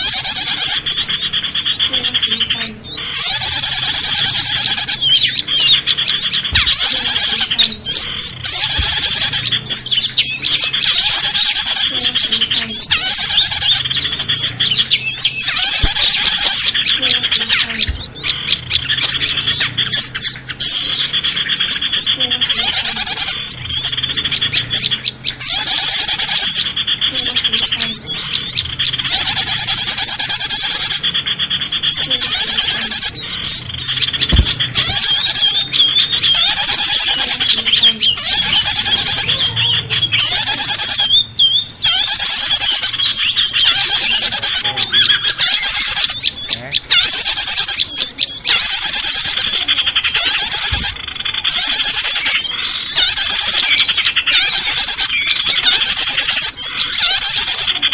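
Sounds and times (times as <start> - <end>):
small birds chirping and trilling: 0.0 - 57.9.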